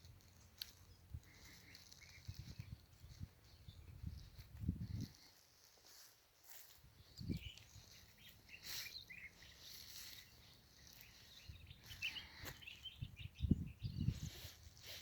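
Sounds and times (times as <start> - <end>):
faint bird chirps: 0.7 - 5.2, 7.0 - 14.6.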